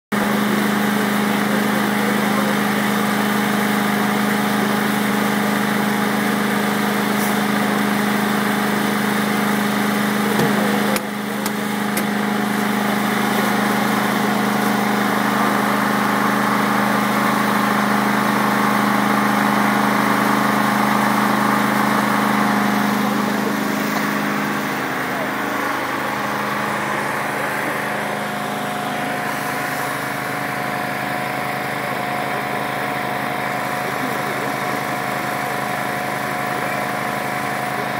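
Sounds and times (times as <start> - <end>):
engine humming steadily: 0.1 - 37.9.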